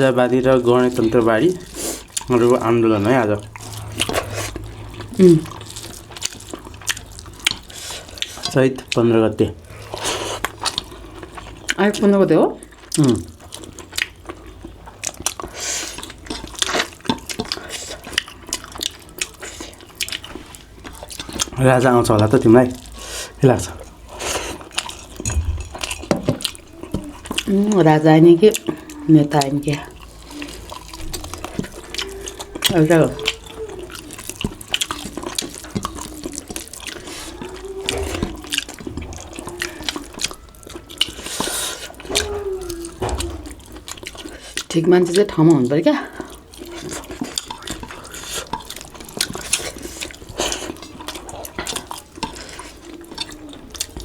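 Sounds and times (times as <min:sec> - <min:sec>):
wet chewing and lip-smacking: 0:00.0 - 0:54.0.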